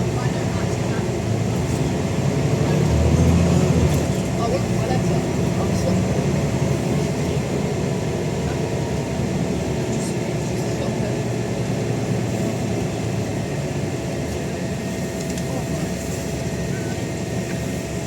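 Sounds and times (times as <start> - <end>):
bus engine droning: 0.0 - 18.0.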